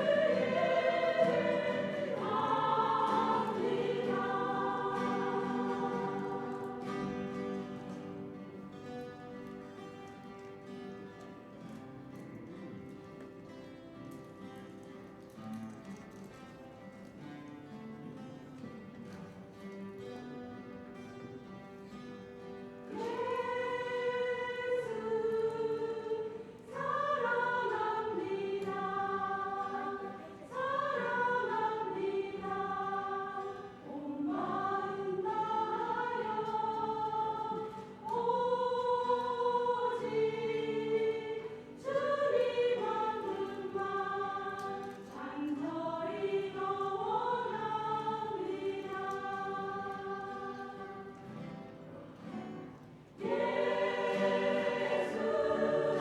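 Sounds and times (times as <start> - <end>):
church choir singing a hymn: 0.0 - 12.6, 21.0 - 56.0.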